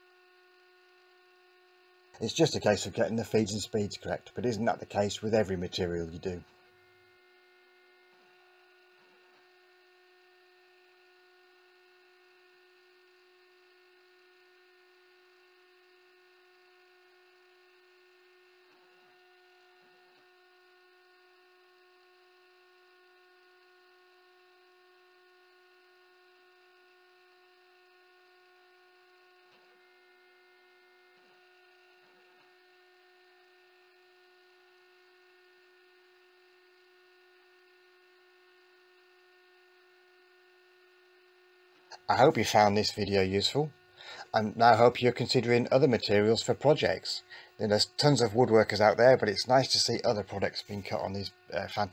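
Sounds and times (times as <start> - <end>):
faint cnc router spindle hum: 0.0 - 51.9.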